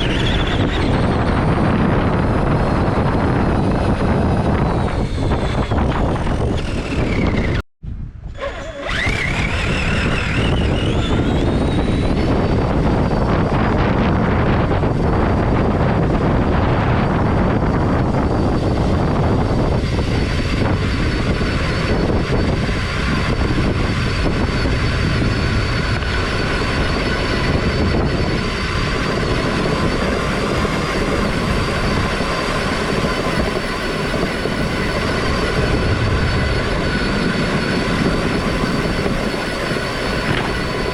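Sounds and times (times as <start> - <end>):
small nitro engine whining: 0.0 - 7.6, 8.2 - 40.9.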